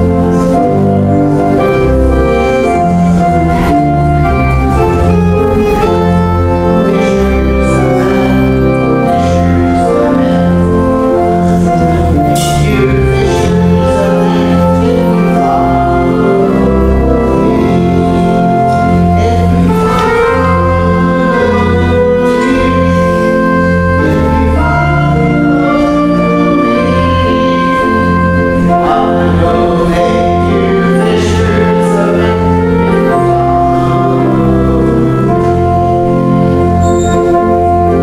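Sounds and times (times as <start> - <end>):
church music on keyboard: 0.0 - 38.0.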